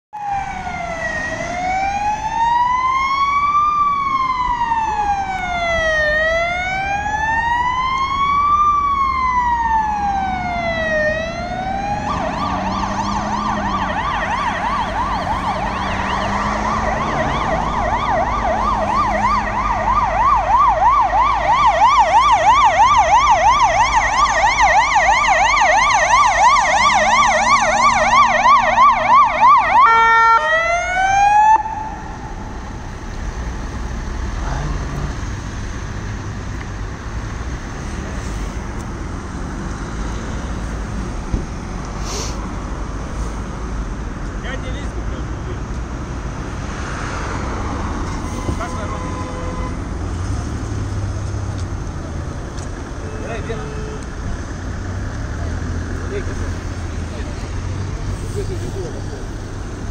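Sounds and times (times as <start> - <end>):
emergency vehicle siren: 0.1 - 59.9.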